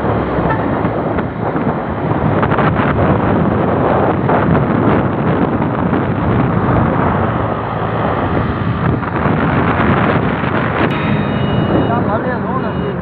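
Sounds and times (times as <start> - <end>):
wind rush over microphone: 0.0 - 12.2
motorcycle engine and road noise: 0.0 - 13.0.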